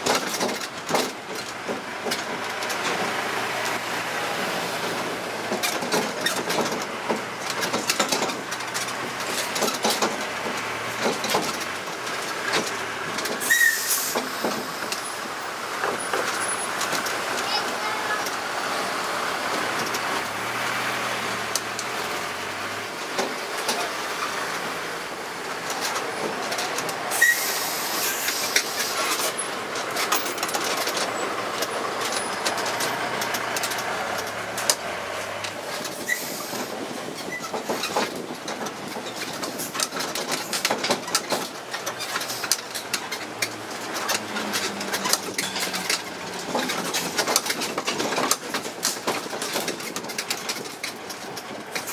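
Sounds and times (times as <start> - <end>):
carriages rattling and clicking: 0.0 - 51.9
road train running noise: 0.0 - 51.9.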